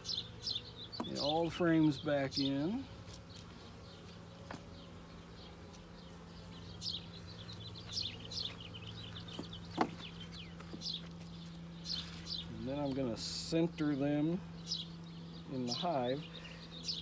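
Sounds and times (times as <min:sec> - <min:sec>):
honeybee colony humming: 0:00.0 - 0:17.0
small birds chirping: 0:00.0 - 0:17.0.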